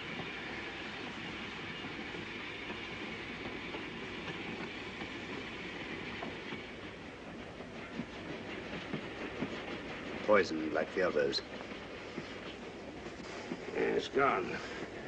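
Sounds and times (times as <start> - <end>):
moving passenger train running: 0.0 - 15.0.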